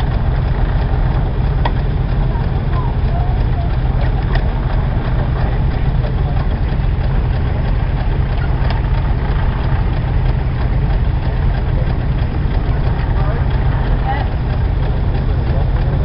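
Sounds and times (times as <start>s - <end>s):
threshing machinery churning: 0.0s - 16.0s.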